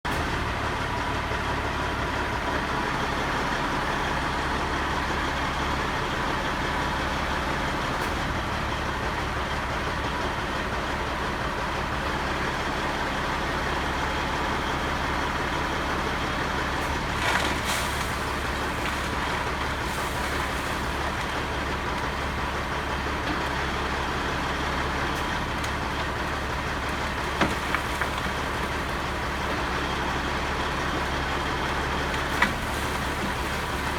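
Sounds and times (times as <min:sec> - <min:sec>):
diesel engine drone: 0:00.1 - 0:33.9.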